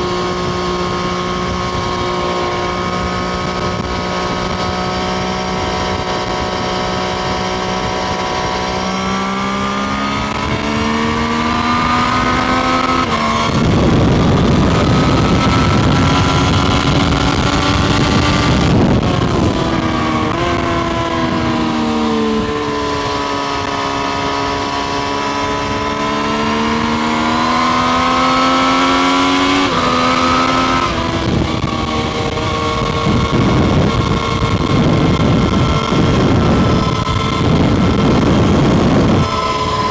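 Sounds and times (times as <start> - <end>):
heavy wind rush: 0.0 - 39.9
motorcycle engine revving: 0.0 - 39.9.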